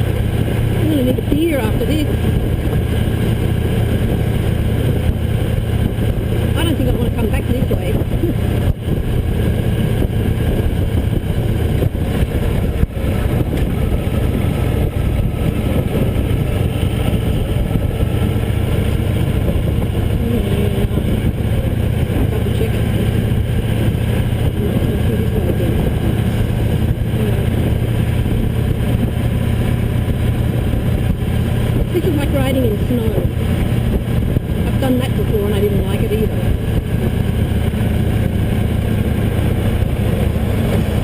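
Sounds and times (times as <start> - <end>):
motorcycle engine running: 0.0 - 41.0
road noise: 0.0 - 41.0
wind: 0.0 - 41.0.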